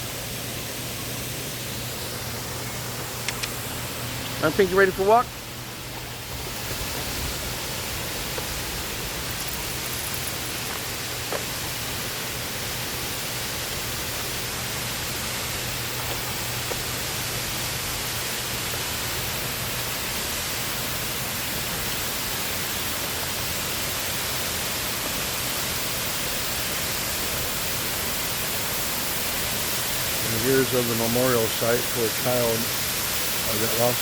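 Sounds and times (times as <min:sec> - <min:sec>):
waterfall rushing: 0:00.9 - 0:34.0.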